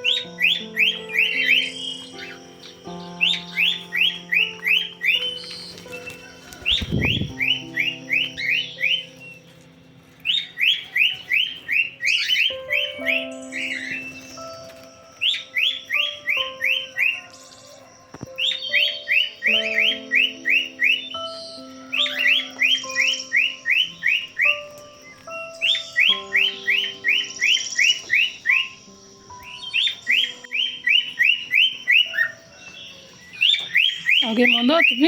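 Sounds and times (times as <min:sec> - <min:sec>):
bird chirping in bursts: 0:00.0 - 0:35.0.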